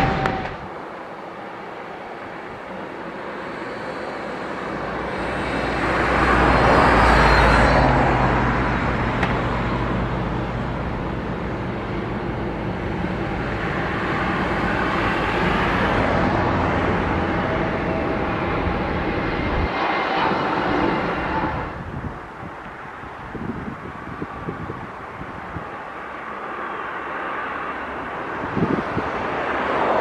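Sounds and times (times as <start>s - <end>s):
jet airliner engines rushing: 0.0s - 30.0s.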